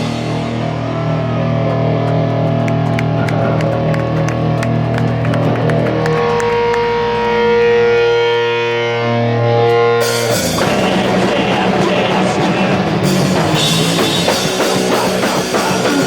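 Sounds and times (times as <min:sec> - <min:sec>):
ringing electric guitar notes: 0:00.0 - 0:16.0
rock band playing: 0:00.0 - 0:16.0.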